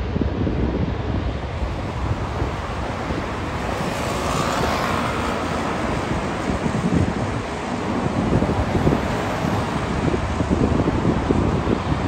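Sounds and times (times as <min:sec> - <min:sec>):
wind buffeting the microphone: 0:00.0 - 0:12.0
vehicle passing by: 0:01.4 - 0:12.0.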